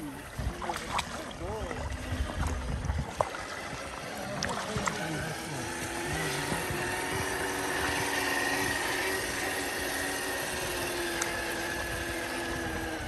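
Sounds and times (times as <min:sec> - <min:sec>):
electric motor and gears whining: 0:00.0 - 0:13.0.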